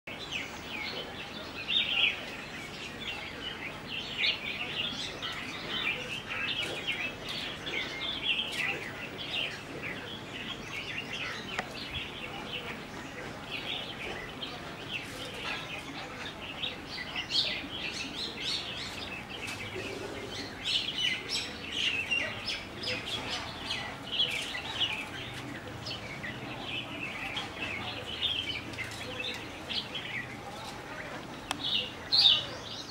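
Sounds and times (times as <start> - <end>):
flock of birds chirping: 0.1 - 32.9.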